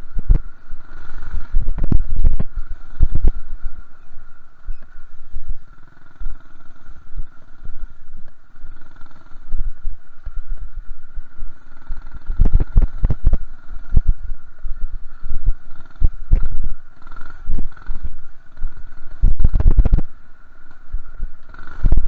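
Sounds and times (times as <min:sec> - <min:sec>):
minibike engine revving: 0:00.0 - 0:22.0
steady high whine: 0:00.0 - 0:22.0.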